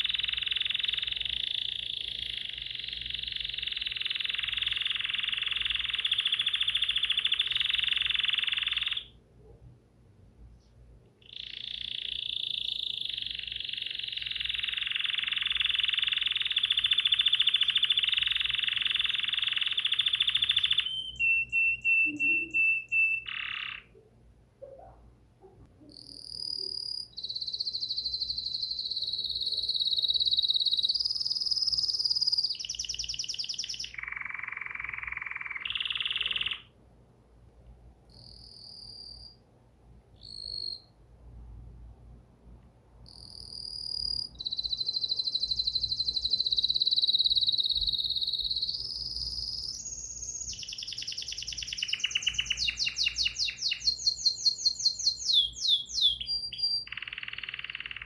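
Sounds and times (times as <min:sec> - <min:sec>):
songbird trilling: 0:00.0 - 0:09.1, 0:11.2 - 0:24.0, 0:25.9 - 0:36.7, 0:40.2 - 0:40.9, 0:43.1 - 0:58.0.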